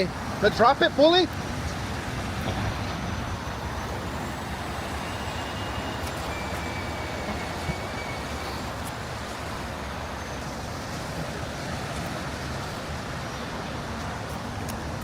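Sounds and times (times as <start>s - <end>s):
heavy truck engines rumbling: 0.0s - 15.0s
road traffic noise: 0.0s - 15.0s.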